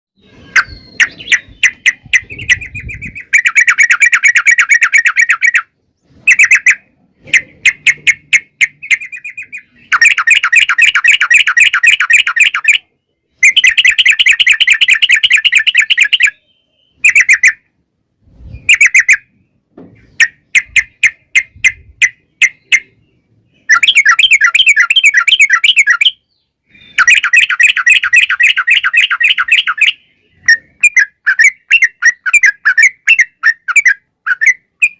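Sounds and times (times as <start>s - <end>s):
bulbul singing rapid trills: 0.2s - 17.7s, 18.4s - 34.9s.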